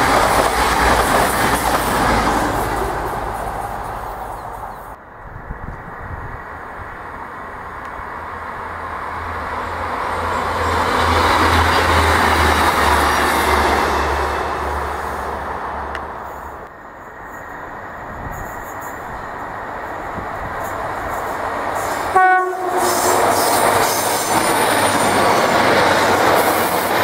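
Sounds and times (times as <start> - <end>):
diesel train approaching: 0.0 - 27.0
diesel train passing: 0.0 - 27.0.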